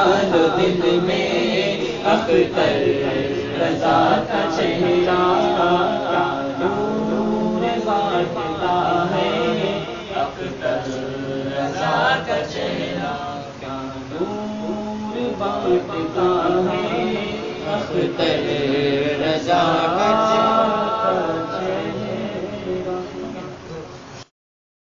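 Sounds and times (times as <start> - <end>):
man singing devotional chant: 0.0 - 24.0.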